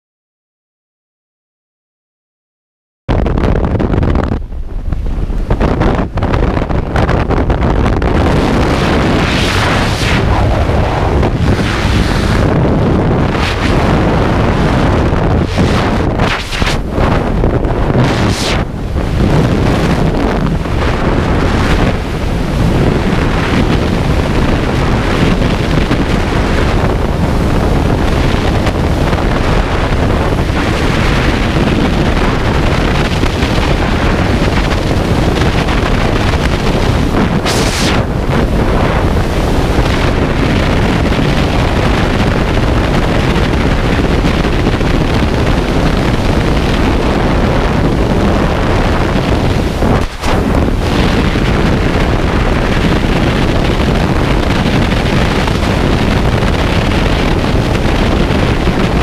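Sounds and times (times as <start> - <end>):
wind rushing over microphone: 3.1 - 59.0.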